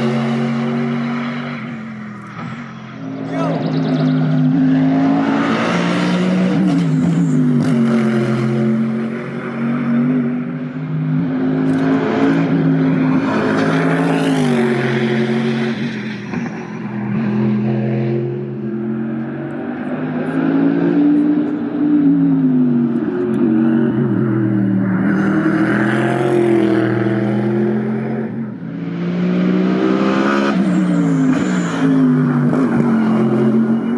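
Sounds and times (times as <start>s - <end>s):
race car engine roaring: 0.0s - 33.9s.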